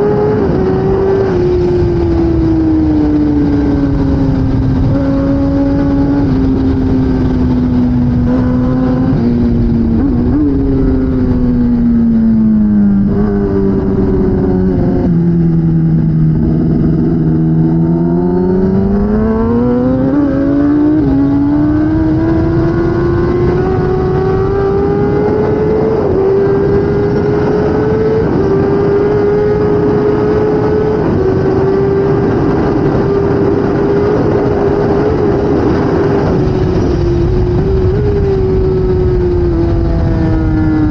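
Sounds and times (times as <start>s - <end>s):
motorcycle engine revving: 0.0s - 40.9s
wind rushing: 0.0s - 40.9s.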